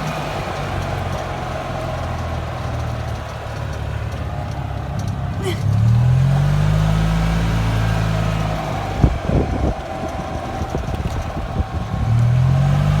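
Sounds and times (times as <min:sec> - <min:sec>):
golf cart motor running: 0:00.0 - 0:13.0.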